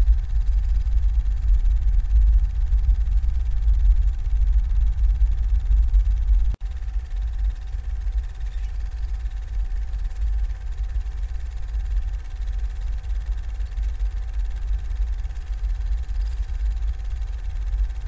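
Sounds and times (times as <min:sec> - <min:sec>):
low rumbling drone: 0:00.0 - 0:18.0
thin steady hum: 0:00.0 - 0:18.0.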